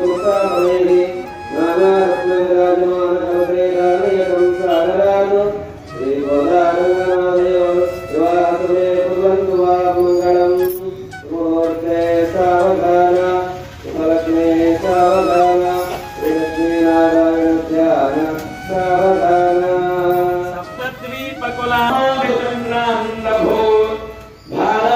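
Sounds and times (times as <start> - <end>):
melodic devotional chanting: 0.0 - 24.9.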